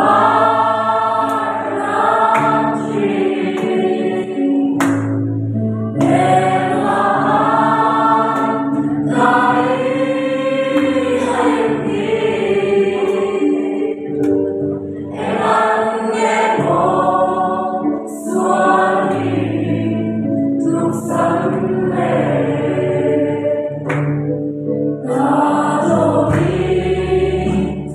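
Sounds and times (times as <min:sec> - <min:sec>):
group of people singing: 0:00.0 - 0:05.2, 0:05.9 - 0:24.1, 0:25.0 - 0:27.9.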